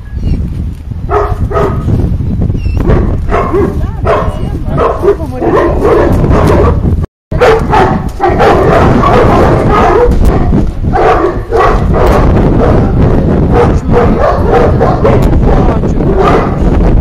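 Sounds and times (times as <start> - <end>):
wind rumble on microphone: 0.0 - 17.0
dogs barking and yelping: 1.1 - 1.9, 2.6 - 15.4, 16.0 - 16.6.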